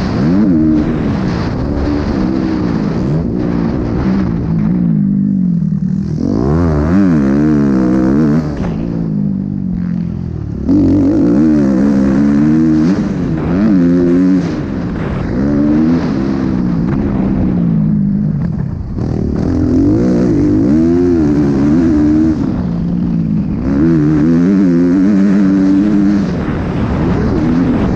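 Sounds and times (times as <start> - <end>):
motocross bike engine revving: 0.0 - 27.9.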